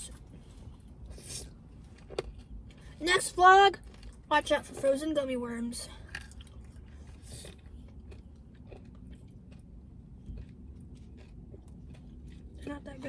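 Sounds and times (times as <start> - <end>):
crunchy chewing: 0.1 - 3.0, 3.8 - 4.9, 5.9 - 13.0.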